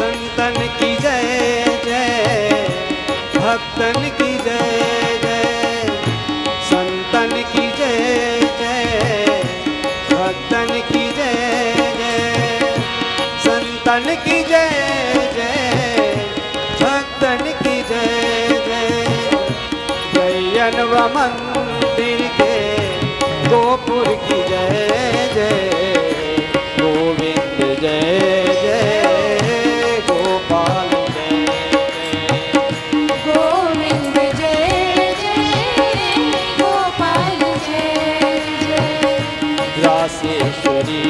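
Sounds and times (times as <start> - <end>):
devotional music with tabla: 0.0 - 41.0
gliding melody over held notes: 0.0 - 41.0.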